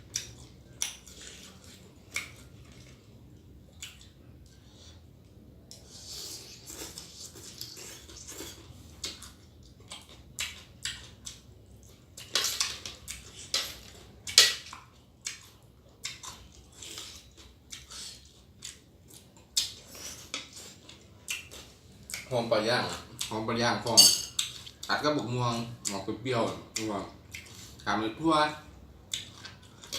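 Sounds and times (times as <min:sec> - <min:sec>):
wet chewing and crunching: 0:00.0 - 0:23.5, 0:29.0 - 0:29.9.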